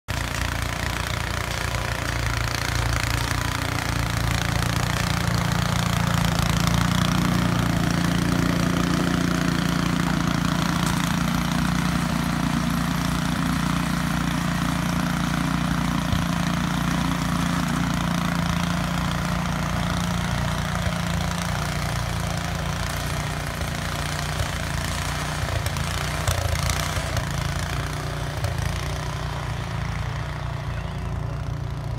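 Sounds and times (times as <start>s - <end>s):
snowblower engine running: 0.1s - 31.9s.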